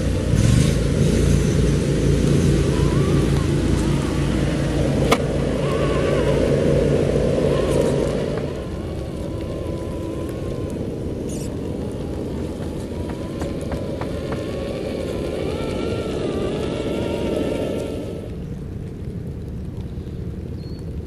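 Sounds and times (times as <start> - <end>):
electric motor and gears whining: 0.0 - 18.6
low rumble: 0.0 - 21.0.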